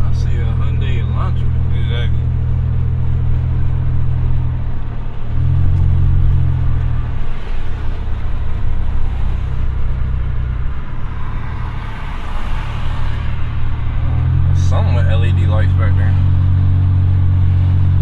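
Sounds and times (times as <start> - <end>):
car exhaust droning: 0.0 - 18.0.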